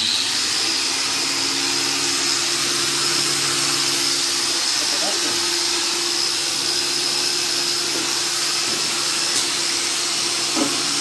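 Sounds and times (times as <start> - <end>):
angle grinder stripping paint: 0.0 - 11.0.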